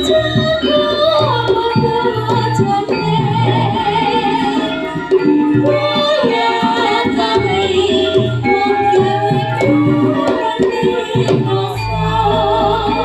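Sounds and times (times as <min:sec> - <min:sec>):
drumming: 0:00.0 - 0:13.0
sustained instrumental tones: 0:00.0 - 0:13.0.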